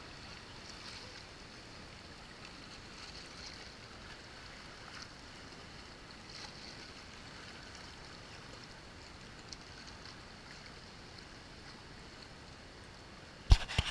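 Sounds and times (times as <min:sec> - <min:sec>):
faint paddle splash: 0:00.2 - 0:12.4.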